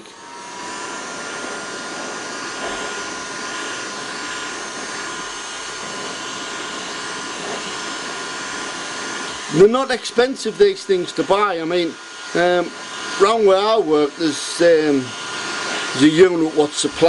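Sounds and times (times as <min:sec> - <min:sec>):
hot air gun fan running: 0:00.0 - 0:17.0.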